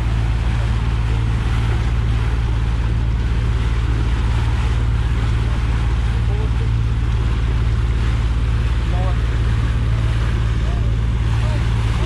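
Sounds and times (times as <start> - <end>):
boat engine humming: 0.0 - 12.0
water spraying along hull: 0.0 - 12.0.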